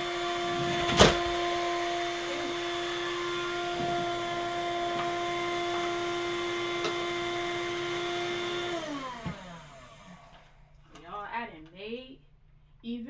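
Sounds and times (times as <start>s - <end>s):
vacuum cleaner motor whine: 0.0s - 10.7s.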